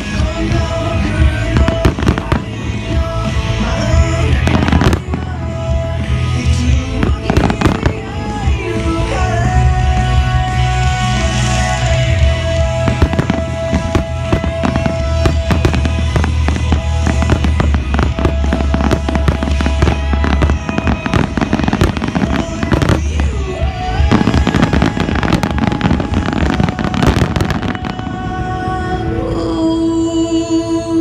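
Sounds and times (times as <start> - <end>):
fireworks bursting and crackling: 0.0 - 29.2
music playing: 0.0 - 31.0.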